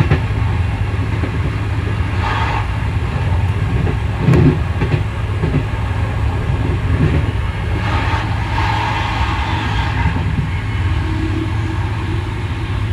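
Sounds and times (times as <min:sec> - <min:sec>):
train rumbling on rails: 0:00.0 - 0:12.9
rushing noise: 0:01.8 - 0:12.9.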